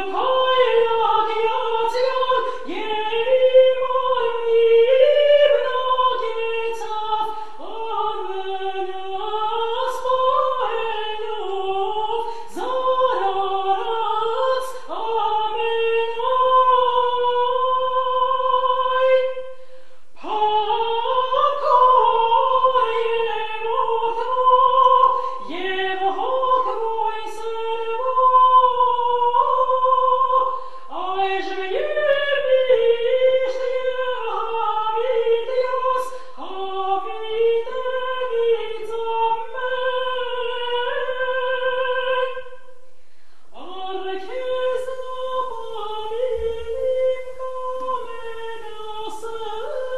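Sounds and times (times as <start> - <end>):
woman singing a chant: 0.0 - 42.9, 43.5 - 49.9.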